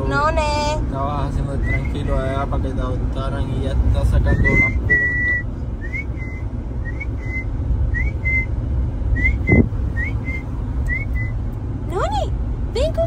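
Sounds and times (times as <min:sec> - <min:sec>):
car rumble: 0:00.0 - 0:13.0.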